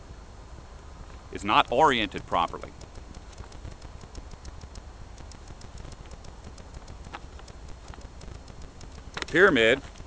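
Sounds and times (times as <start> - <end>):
steady low rumble: 0.0 - 10.0
fast even ticking: 1.4 - 10.0.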